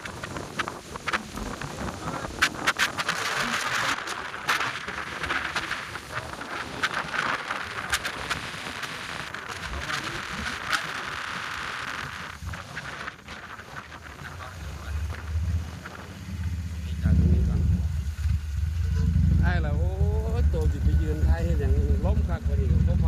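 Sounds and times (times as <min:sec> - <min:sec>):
rain and wind hissing: 0:00.0 - 0:23.0.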